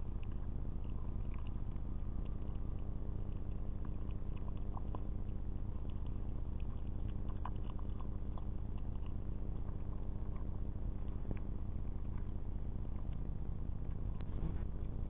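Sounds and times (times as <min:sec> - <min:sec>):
clicks and crunches of chewing nuts: 0:00.0 - 0:15.0
steady low hum: 0:00.0 - 0:15.0.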